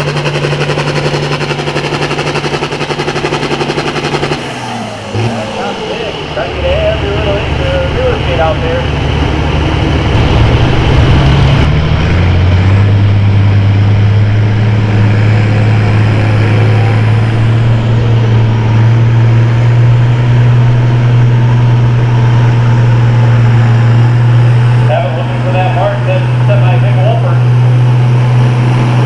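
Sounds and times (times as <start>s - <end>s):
tractor engine under load: 0.0s - 29.0s.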